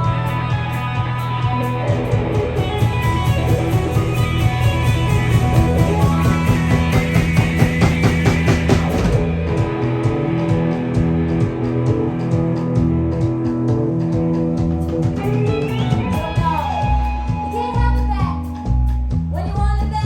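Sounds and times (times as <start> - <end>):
live rock band playing: 0.0 - 19.9.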